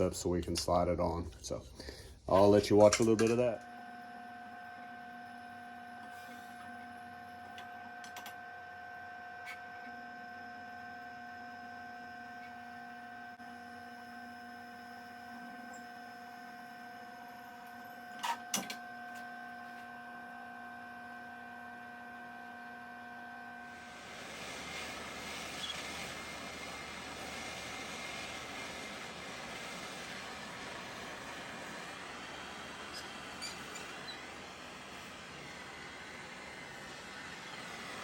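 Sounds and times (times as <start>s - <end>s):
drill press motor whining: 1.9s - 38.0s.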